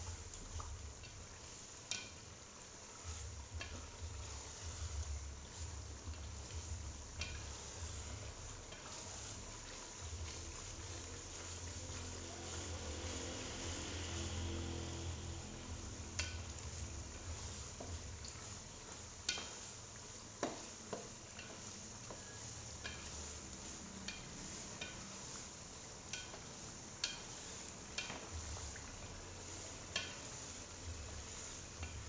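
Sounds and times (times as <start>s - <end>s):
sizzling in a pot: 0.0s - 32.0s
spatula tapping and scraping pot: 0.0s - 32.0s.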